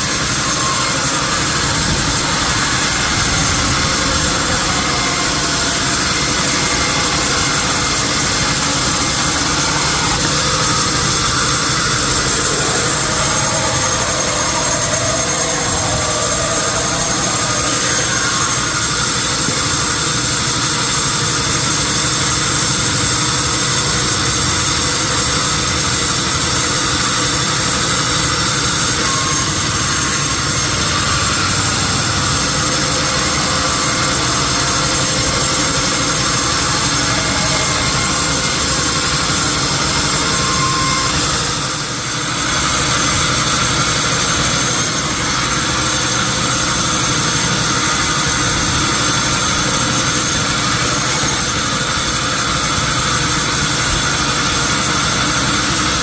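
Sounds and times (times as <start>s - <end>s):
sawmill machinery hum and whine: 0.0s - 56.0s.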